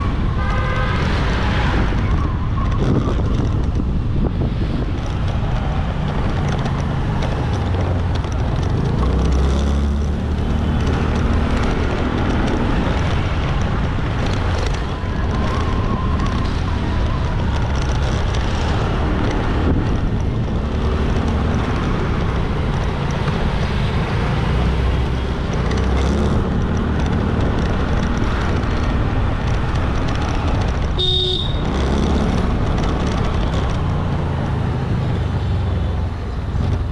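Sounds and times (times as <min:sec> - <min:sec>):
hum of road traffic: 0:00.0 - 0:36.9
wind buffeting microphone: 0:00.0 - 0:36.9
motorbike engine running: 0:01.7 - 0:36.9.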